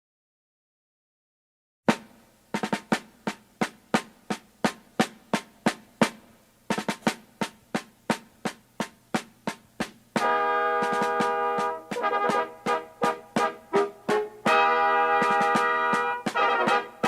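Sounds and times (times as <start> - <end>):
snare drum march rhythm: 1.9 - 17.0.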